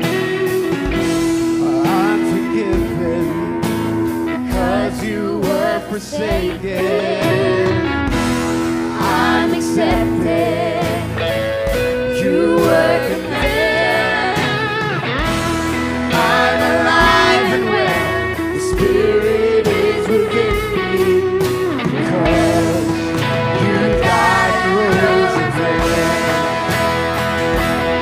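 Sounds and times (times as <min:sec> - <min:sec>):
acoustic guitar: 0:00.0 - 0:28.0
electric bass: 0:00.0 - 0:28.0
electric guitar: 0:00.0 - 0:28.0
person singing: 0:01.5 - 0:08.0, 0:08.8 - 0:11.3, 0:12.0 - 0:15.0, 0:16.1 - 0:26.8.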